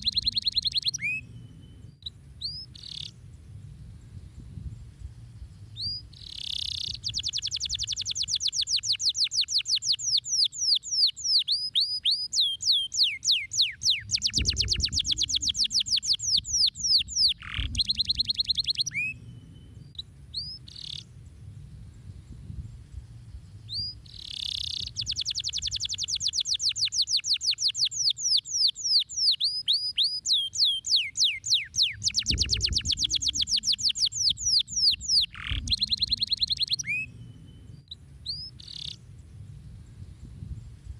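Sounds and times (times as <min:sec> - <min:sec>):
canary singing trills: 0:00.0 - 0:03.2, 0:05.6 - 0:21.2, 0:23.5 - 0:39.1.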